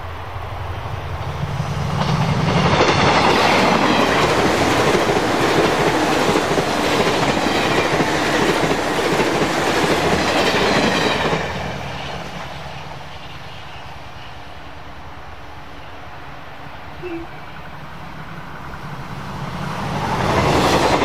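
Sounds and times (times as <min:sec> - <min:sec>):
electric train passing at speed: 0:00.0 - 0:21.0.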